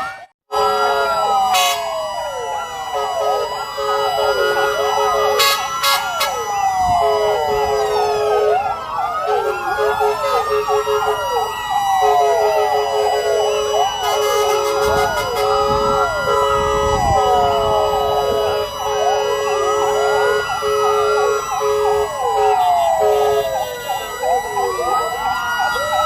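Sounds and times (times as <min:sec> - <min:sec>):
fire truck sirens wailing: 0:00.0 - 0:26.0
steady held siren tones: 0:00.0 - 0:26.0.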